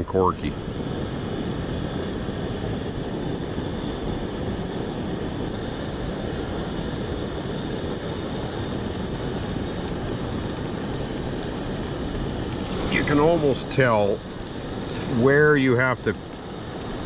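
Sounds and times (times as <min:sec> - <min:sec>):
camp stove burner roaring: 0:00.0 - 0:17.0
mushrooms sizzling in pan: 0:00.8 - 0:17.0.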